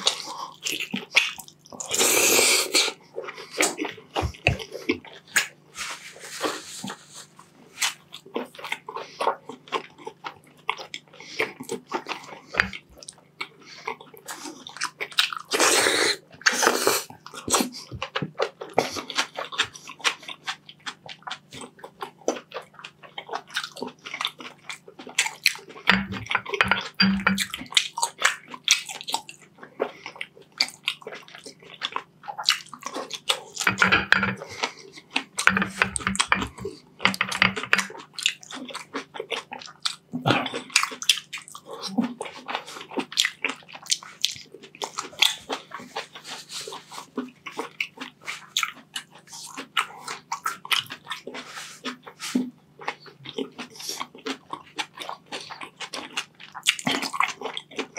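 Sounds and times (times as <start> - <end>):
wet chewing and mouth smacks: 0.0 - 5.6, 6.4 - 57.9.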